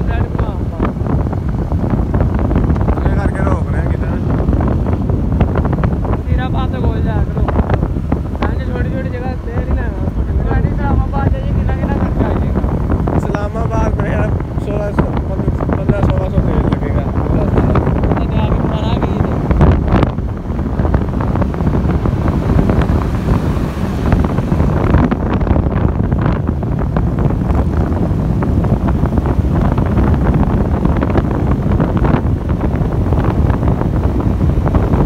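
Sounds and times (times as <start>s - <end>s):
motorcycle running: 0.0s - 35.0s
wind buffeting microphone: 0.0s - 35.0s.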